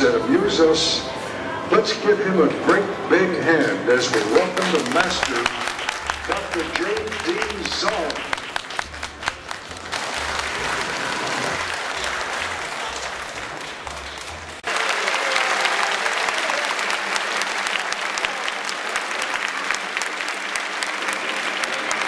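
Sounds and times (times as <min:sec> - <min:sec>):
audience applauding: 0:04.0 - 0:22.0.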